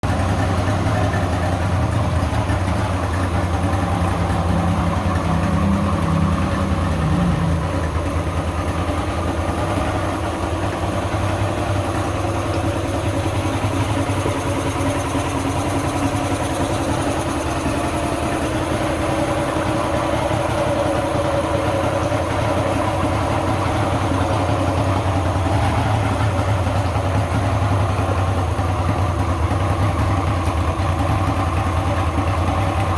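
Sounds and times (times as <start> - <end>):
outboard motor idling: 0.0 - 32.9.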